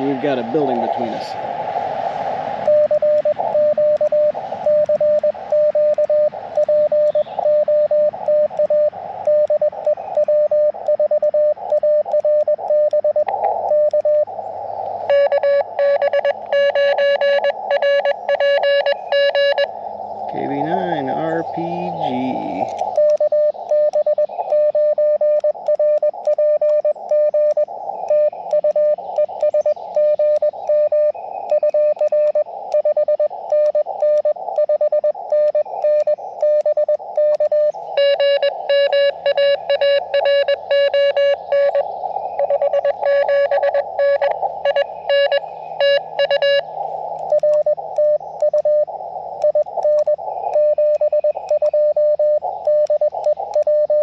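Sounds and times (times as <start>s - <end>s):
radio receiver hiss: 0.0s - 54.0s
morse code beeps: 2.6s - 14.3s, 14.9s - 54.0s.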